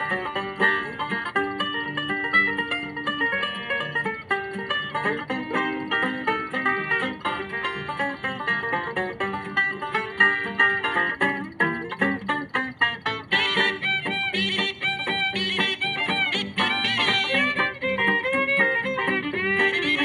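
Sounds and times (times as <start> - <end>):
guitar: 0.0 - 20.0
picked banjo melody: 0.0 - 20.0.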